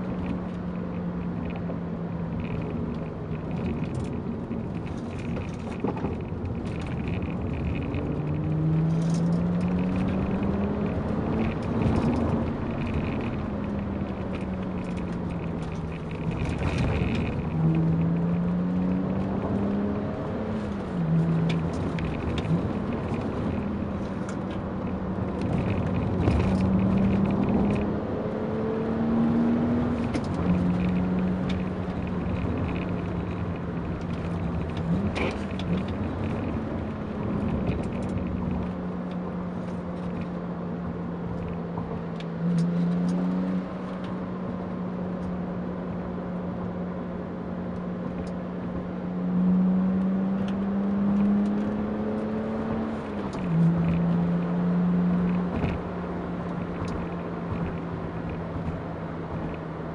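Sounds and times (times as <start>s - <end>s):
car engine droning while shifting: 0.0s - 59.9s.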